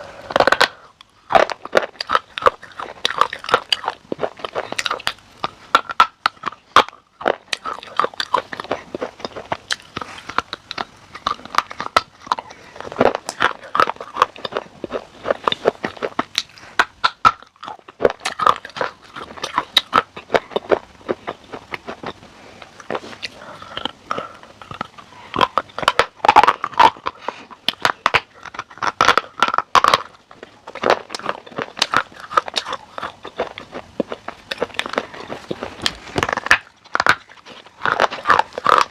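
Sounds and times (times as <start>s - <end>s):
chewing something crunchy: 0.0s - 38.9s.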